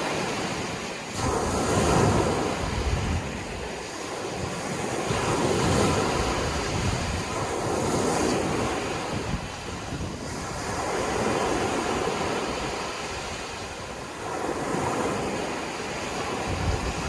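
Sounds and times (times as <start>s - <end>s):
sea waves breaking: 0.0s - 17.0s.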